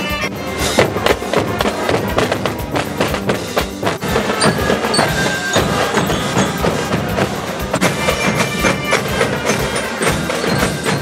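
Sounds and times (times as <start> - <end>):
marching bells ringing: 0.0 - 11.0
marching drums playing a beat: 0.2 - 11.0.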